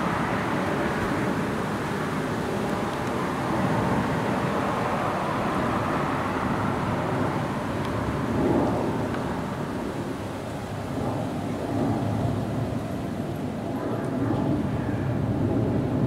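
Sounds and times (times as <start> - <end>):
jet aircraft flying overhead: 0.0 - 16.0.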